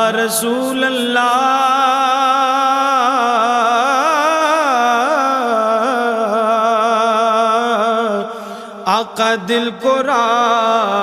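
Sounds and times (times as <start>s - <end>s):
person singing devotional song: 0.0s - 11.0s.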